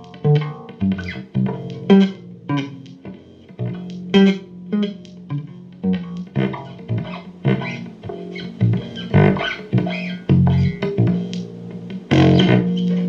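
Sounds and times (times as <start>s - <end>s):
guitar plucked notes: 0.0s - 13.0s
ringing low bass notes: 0.0s - 13.0s.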